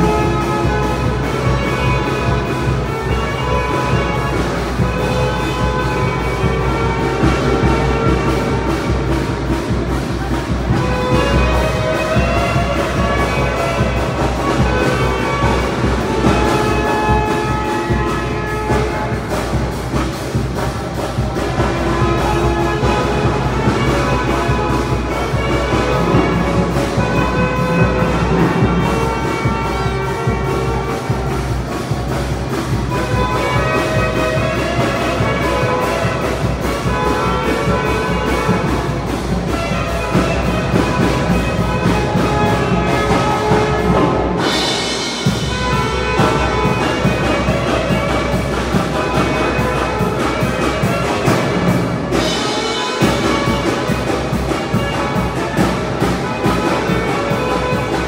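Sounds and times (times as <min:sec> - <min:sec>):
trumpets and trombones: 0:00.0 - 0:58.0.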